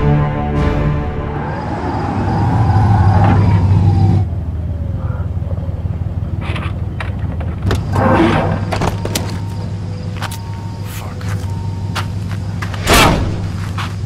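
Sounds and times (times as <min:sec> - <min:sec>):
low engine rumble: 0:01.7 - 0:14.0.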